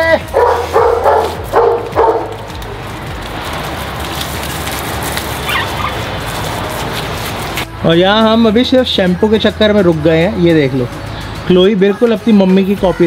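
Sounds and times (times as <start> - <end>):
garden hose spraying water: 0.0 - 13.0.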